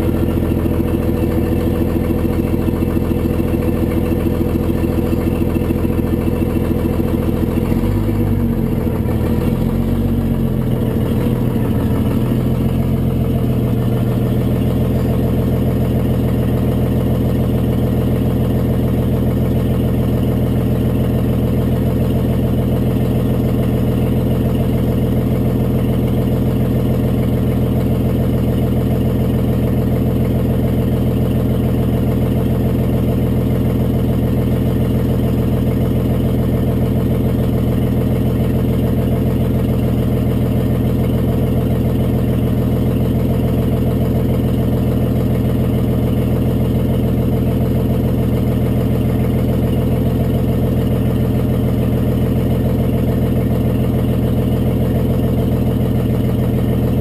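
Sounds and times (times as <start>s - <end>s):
diesel bus engine idling: 0.0s - 57.0s.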